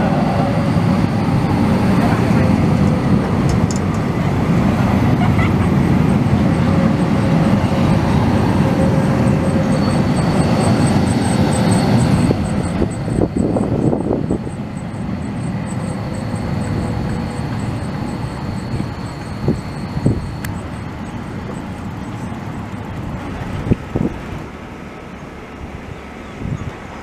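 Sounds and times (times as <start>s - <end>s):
faint steady whine: 0.0s - 27.0s
tram rolling rumble: 0.0s - 27.0s.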